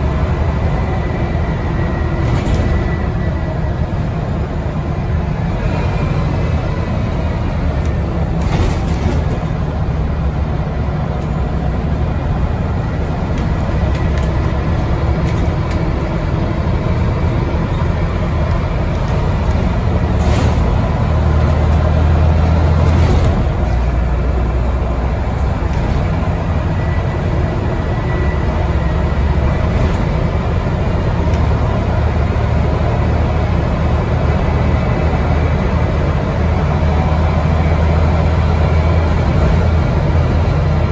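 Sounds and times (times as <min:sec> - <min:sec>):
bus engine droning: 0:00.0 - 0:40.9
road noise: 0:00.0 - 0:40.9.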